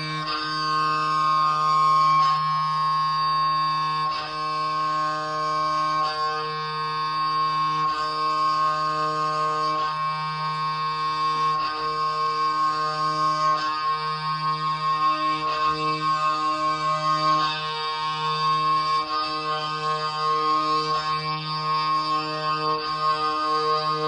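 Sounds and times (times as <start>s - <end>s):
amplified violin drone: 0.0s - 24.0s
low string drone: 0.0s - 24.0s.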